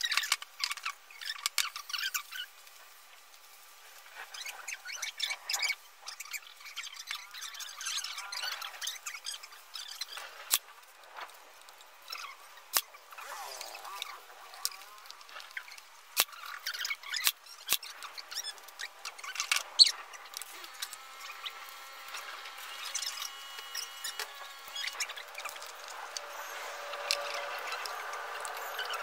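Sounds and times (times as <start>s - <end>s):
wood and clamp squeaking: 4.3s - 10.6s, 12.0s - 29.0s.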